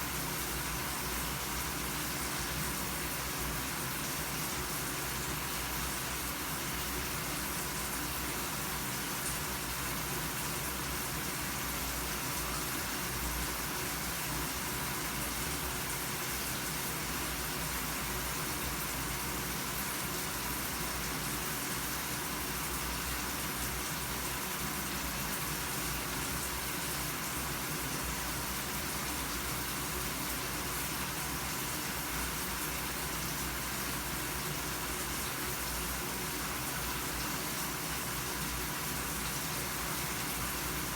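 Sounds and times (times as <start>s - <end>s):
shower running: 0.0s - 40.9s.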